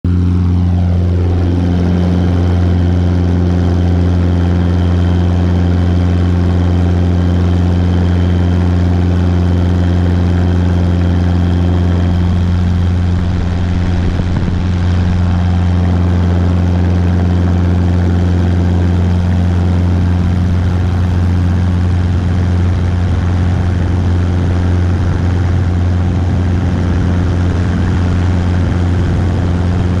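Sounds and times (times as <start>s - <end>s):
helicopter engine and rotor drone: 0.0s - 30.0s.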